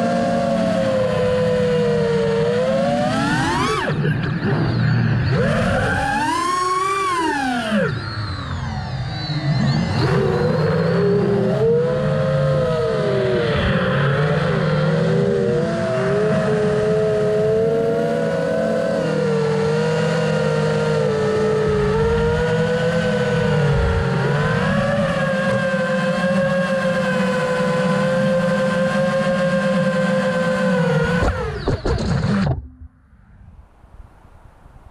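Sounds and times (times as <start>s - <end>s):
drone motors whining: 0.0s - 33.5s.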